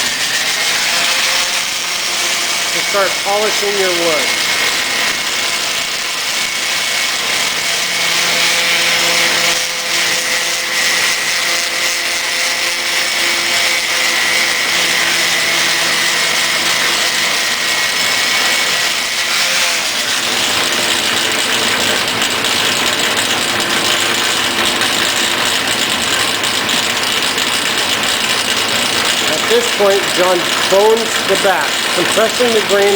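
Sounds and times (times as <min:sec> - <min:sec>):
power buffer polishing wood: 0:00.0 - 0:32.9.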